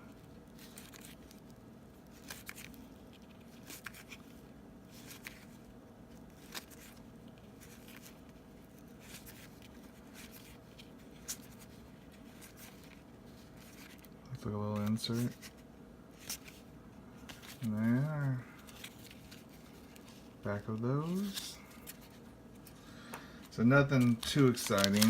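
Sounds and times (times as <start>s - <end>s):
faint room hum: 0.0s - 25.0s
cards being flipped through: 0.6s - 25.0s.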